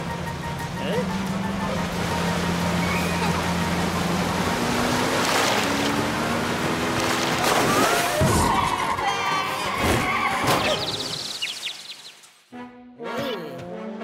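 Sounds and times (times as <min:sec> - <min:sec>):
water splashing and sloshing: 0:00.2 - 0:12.5.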